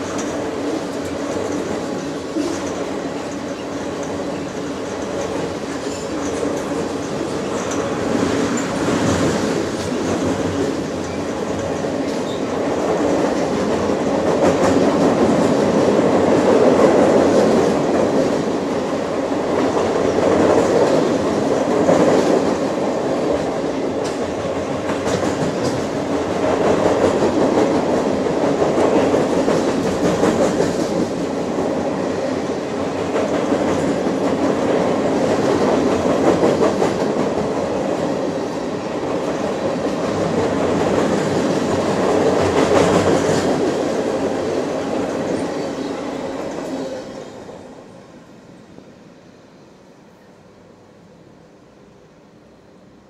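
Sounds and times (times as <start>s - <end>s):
train wheels rumbling on bridge: 0.0s - 48.0s.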